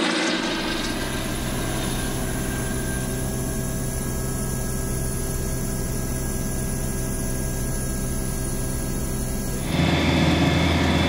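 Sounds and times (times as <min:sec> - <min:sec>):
helicopter engine and rotor drone: 0:00.0 - 0:11.0
thin high whine: 0:00.0 - 0:11.0.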